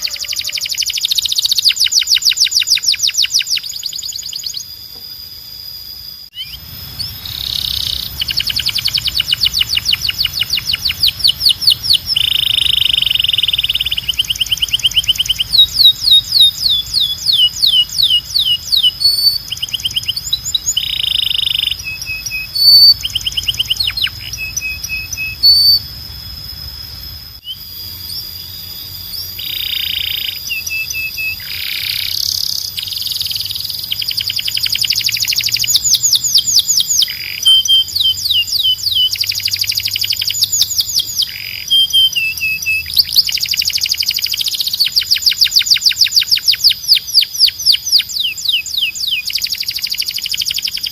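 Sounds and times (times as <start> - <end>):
canary singing rapid trills: 0.0 - 50.9.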